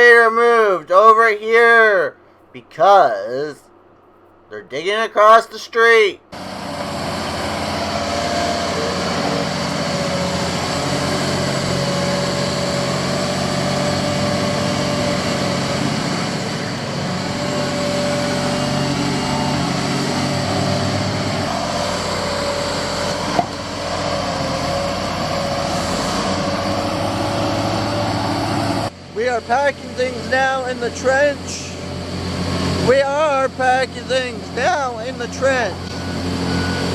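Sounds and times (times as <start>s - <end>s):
diesel engine running: 6.3s - 36.9s
steady whine: 6.3s - 36.9s.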